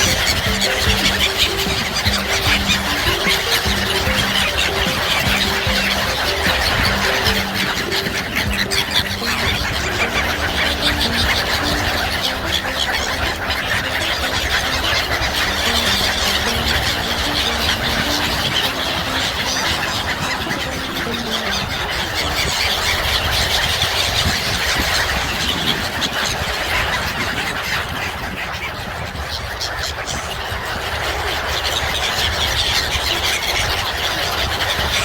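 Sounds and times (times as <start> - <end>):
gulls screeching and calling: 0.0 - 35.0.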